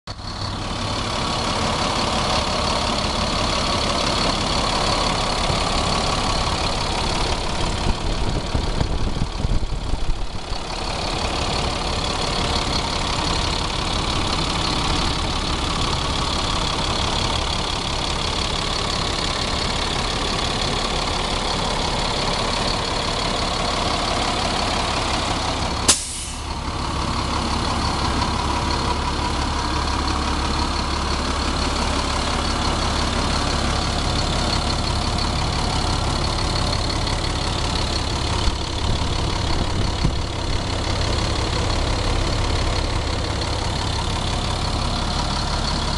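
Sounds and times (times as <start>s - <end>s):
diesel engine idling: 0.1s - 45.9s.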